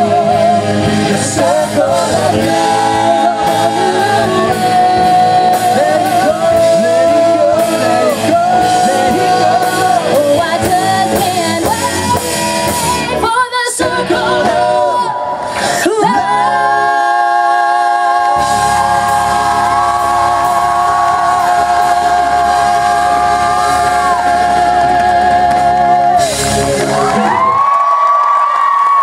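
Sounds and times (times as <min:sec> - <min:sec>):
singers and band holding chord: 0:00.0 - 0:28.2.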